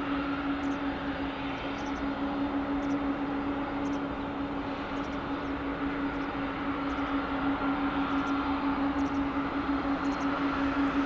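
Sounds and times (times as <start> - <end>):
jet airliner engine rush: 0.0 - 11.0.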